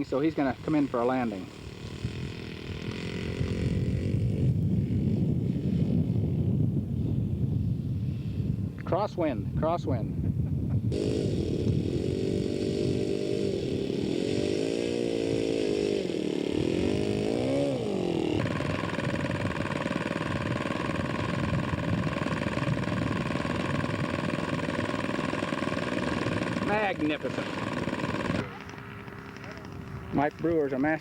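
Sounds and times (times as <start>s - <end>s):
steady engine drone: 0.0s - 8.0s, 10.8s - 31.0s
model airplane engine wavering: 0.0s - 8.5s, 10.9s - 31.0s.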